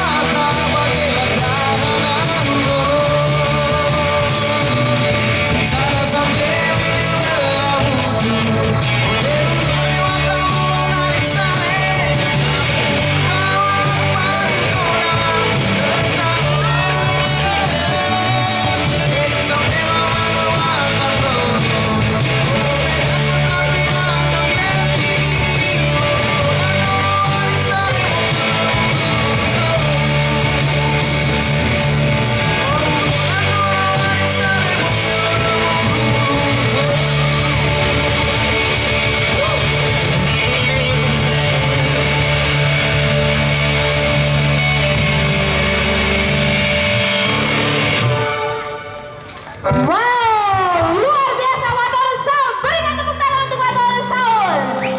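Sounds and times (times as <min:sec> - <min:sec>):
person singing: 0:00.0 - 0:45.5, 0:47.5 - 0:54.9
live rock band music: 0:00.0 - 0:54.9.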